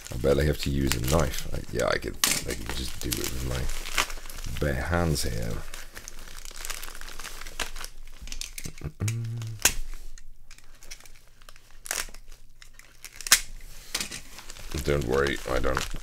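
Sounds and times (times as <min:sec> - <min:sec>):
plastic bag crinkling and tearing: 0:00.0 - 0:16.0.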